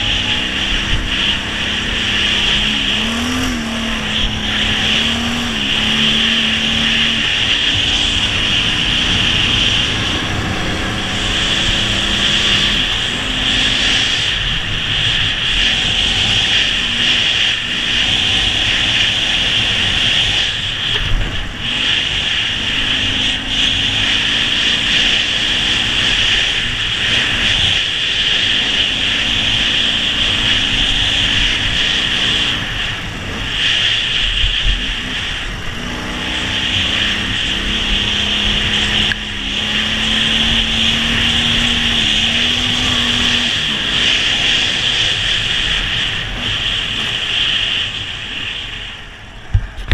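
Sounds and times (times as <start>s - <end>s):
motorcycle engine running: 0.0s - 49.9s
road and wind noise: 0.0s - 49.9s.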